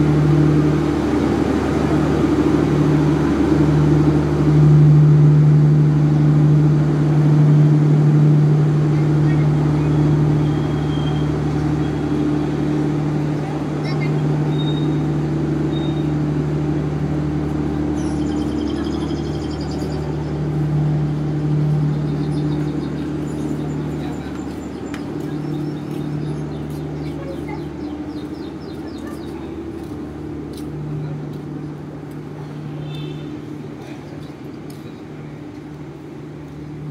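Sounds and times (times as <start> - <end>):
train engine humming: 0.0 - 36.9.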